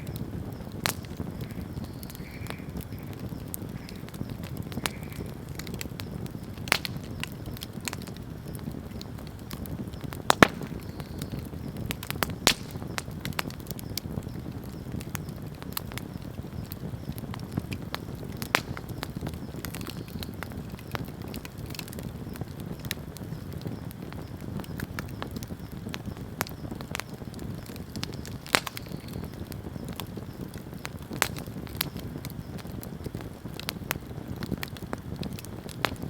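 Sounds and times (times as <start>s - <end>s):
campfire flames rumbling: 0.0s - 36.0s
wood crackling and popping: 0.0s - 36.0s.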